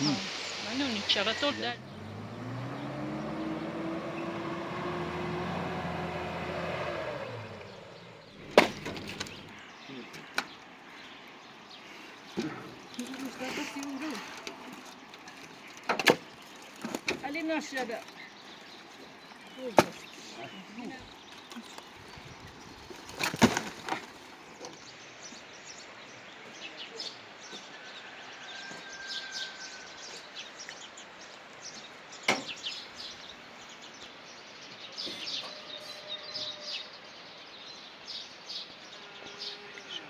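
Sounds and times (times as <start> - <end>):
birds chirping: 0.0 - 40.0
outdoor background noise: 0.0 - 40.0.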